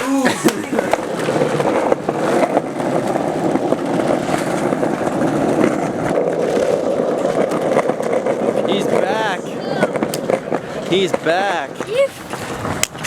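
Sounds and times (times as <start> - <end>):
skateboard wheels rolling on pavement: 0.0 - 13.0
wheels clicking over cracks: 0.0 - 13.0.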